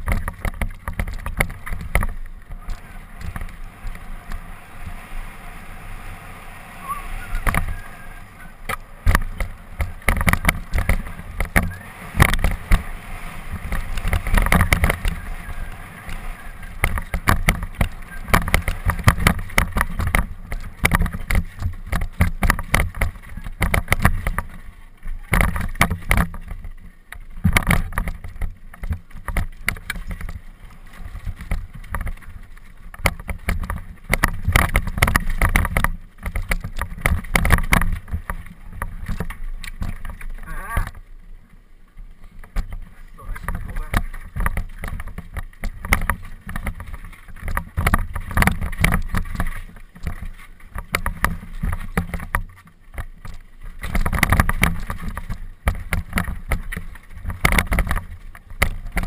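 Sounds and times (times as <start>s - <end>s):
bike clattering over rocks: 0.0s - 4.9s, 7.2s - 41.1s, 41.9s - 59.0s.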